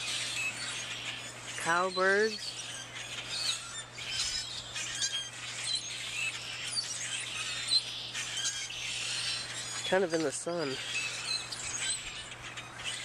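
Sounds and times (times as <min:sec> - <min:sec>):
flock of birds chattering: 0:00.0 - 0:13.0.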